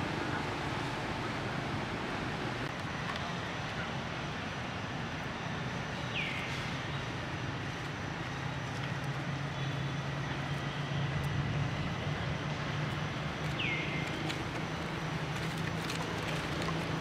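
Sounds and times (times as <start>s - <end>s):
low mechanical hum: 0.0s - 17.0s
outdoor background noise: 0.0s - 17.0s.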